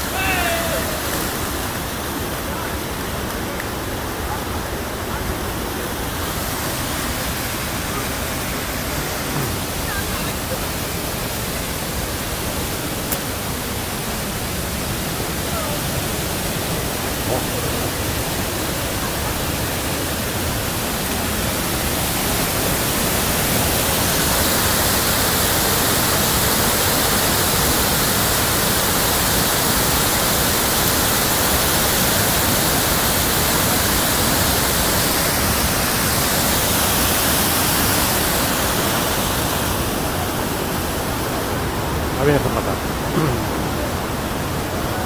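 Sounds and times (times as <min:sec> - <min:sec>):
waterfall rushing into pool: 0:00.0 - 0:45.0.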